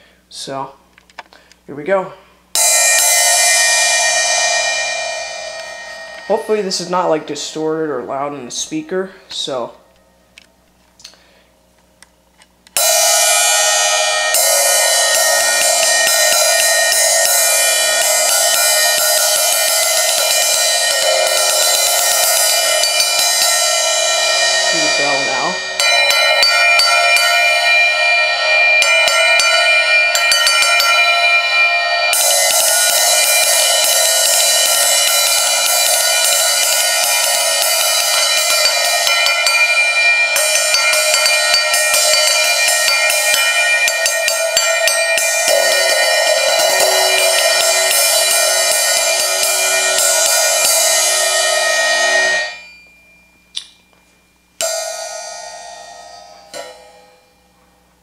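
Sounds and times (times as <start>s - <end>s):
cymbal ringing out: 2.5s - 10.2s, 12.8s - 57.8s
cymbal bell struck rapidly: 2.6s - 7.8s, 12.8s - 53.3s, 54.6s - 57.2s.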